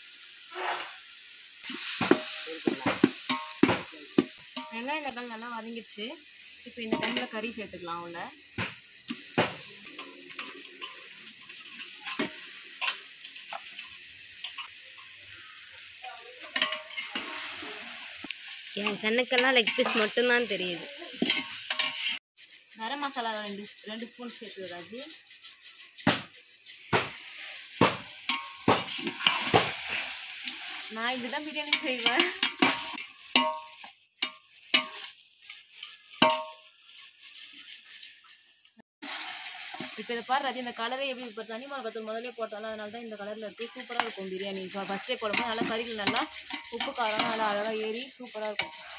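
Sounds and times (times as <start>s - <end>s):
masala sizzling in a pot: 0.0s - 48.9s.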